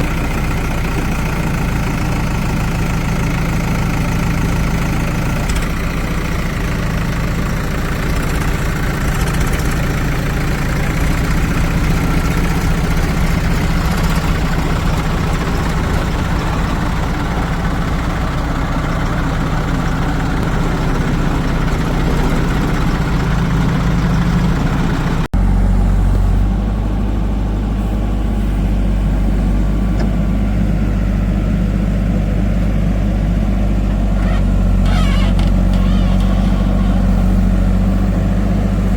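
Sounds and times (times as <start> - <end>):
engine idling with deep note: 0.0 - 38.9
heavy diesel engine running: 0.0 - 38.9.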